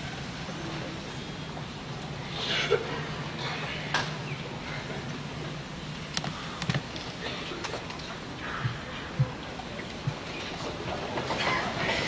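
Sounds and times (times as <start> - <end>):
audience murmur and rustle: 0.0 - 12.0
steady low hum: 0.0 - 12.0.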